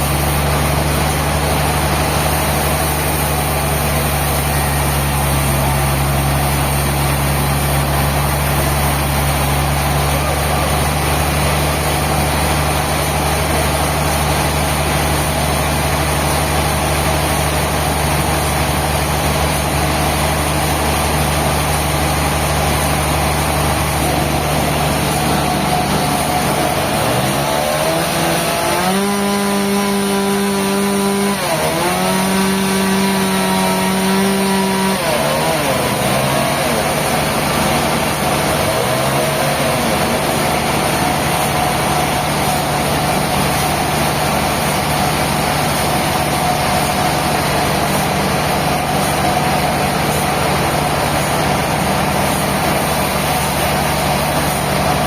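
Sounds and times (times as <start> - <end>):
engine revving: 0.0 - 55.0
engine running steadily: 0.0 - 55.0.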